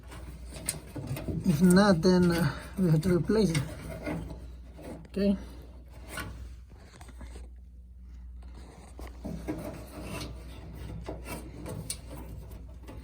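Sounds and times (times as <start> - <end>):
low steady hum: 0.0 - 13.0
rubbing and scraping: 0.0 - 13.0.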